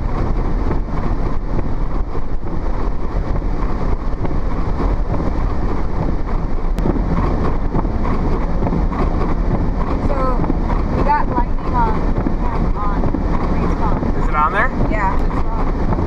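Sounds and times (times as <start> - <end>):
blizzard wind rushing: 0.0 - 16.0
vehicle road and engine noise: 0.0 - 16.0.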